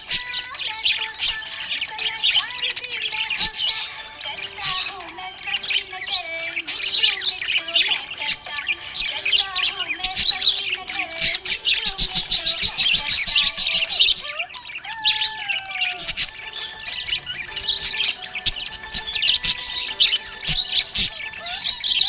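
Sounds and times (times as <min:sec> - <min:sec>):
budgerigar chirping and warbling: 0:00.0 - 0:22.0.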